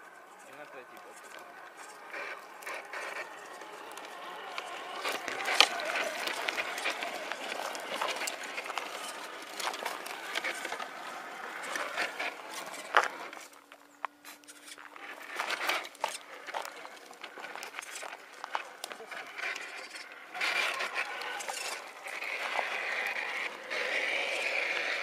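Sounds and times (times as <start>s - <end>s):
dry leaves and twigs crackling: 0.0s - 25.0s
electric motor whirring: 0.6s - 25.0s.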